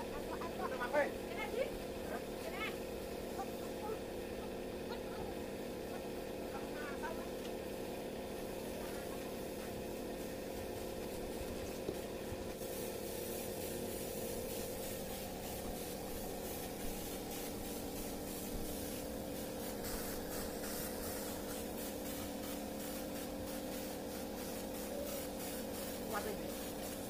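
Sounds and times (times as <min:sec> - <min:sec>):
air compressor humming: 0:00.0 - 0:27.0
spray gun hissing: 0:00.0 - 0:27.0.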